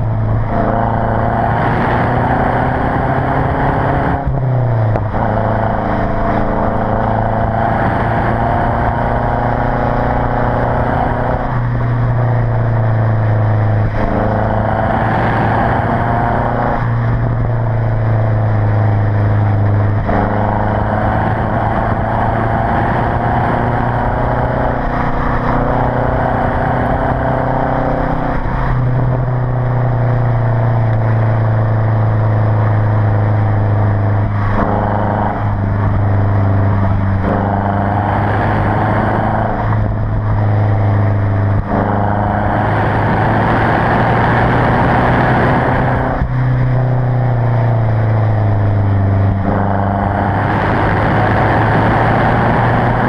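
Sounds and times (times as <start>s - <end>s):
car exhaust revving: 0.0s - 53.0s.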